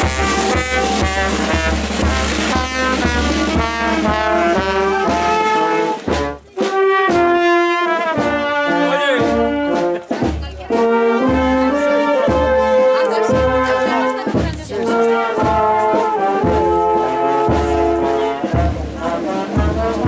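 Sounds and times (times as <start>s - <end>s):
bass drum: 0.0s - 20.0s
marching brass band playing: 0.0s - 20.0s.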